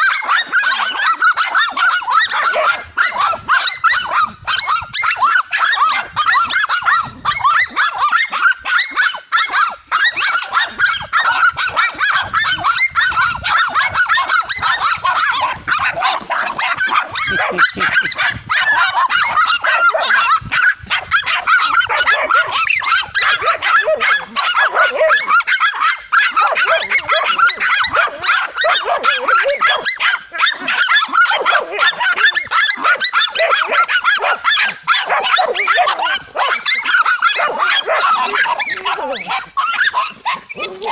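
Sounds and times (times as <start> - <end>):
dogs barking and yapping: 0.0 - 40.9.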